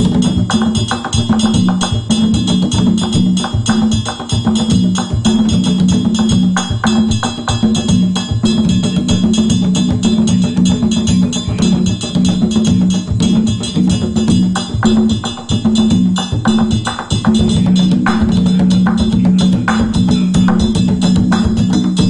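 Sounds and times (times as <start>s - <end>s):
bass line: 0.0s - 22.0s
hand percussion: 0.0s - 22.0s
sharp rhythmic clicks: 0.0s - 22.0s.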